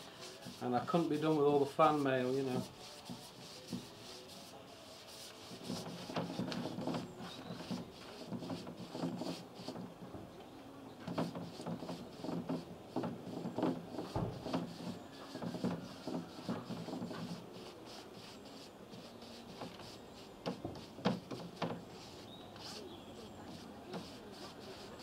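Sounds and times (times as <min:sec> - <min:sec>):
brush scrubbing on plywood: 0:00.0 - 0:09.9, 0:11.0 - 0:25.0.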